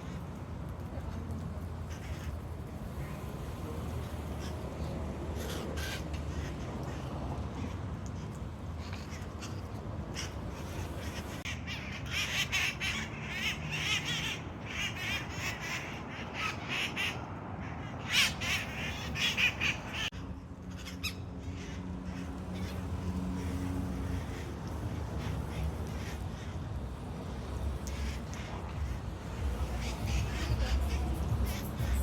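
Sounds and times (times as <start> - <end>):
parakeets screeching and chattering: 1.9 - 7.8, 8.7 - 26.6, 27.3 - 32.0.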